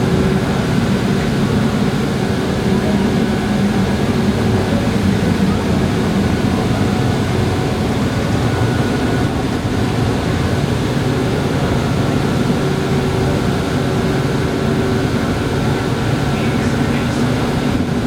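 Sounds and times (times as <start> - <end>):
faint steady tones: 0.0 - 18.0
ferry engines rumbling: 0.0 - 18.0.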